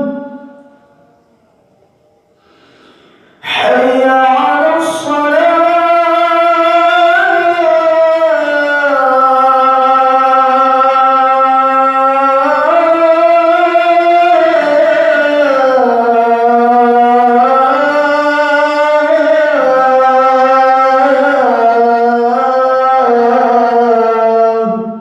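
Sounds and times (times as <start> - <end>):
man chanting call to prayer: 0.0 - 1.4, 3.4 - 25.0.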